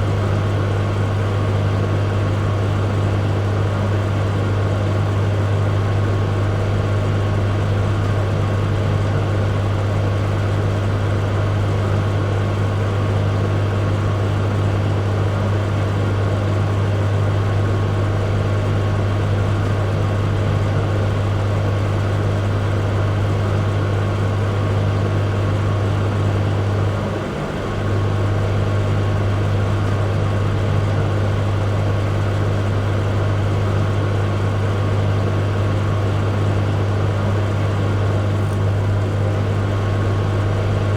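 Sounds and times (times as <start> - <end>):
microwave oven humming: 0.0 - 40.9.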